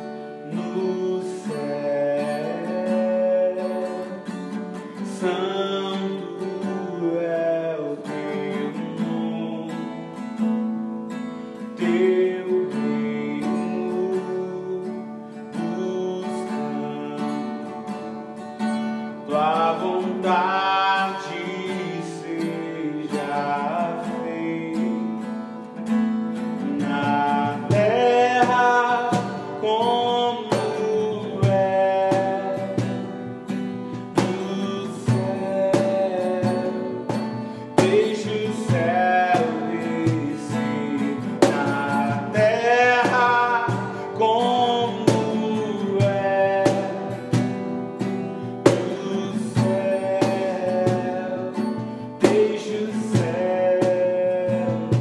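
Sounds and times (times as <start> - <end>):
person singing slow melody: 0.0 - 10.2, 11.8 - 18.0, 19.2 - 25.7, 26.3 - 55.0
acoustic guitar: 0.0 - 55.0.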